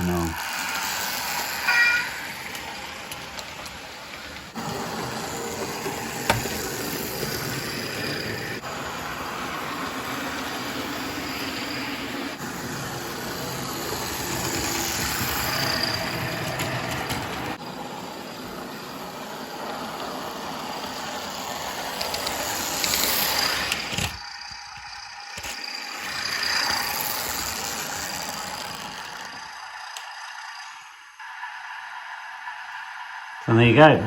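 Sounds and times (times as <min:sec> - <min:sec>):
recorded diesel engine through small speaker: 0:00.0 - 0:34.0.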